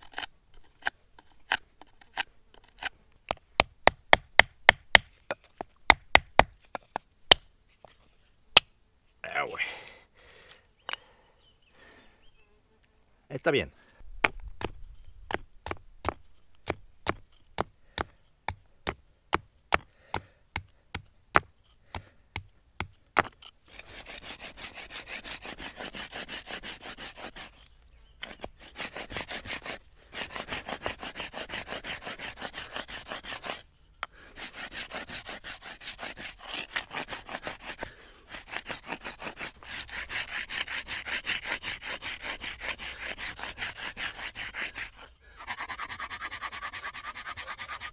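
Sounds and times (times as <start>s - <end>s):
wooden spindle rasping on stone: 0.0s - 8.2s, 14.2s - 47.9s.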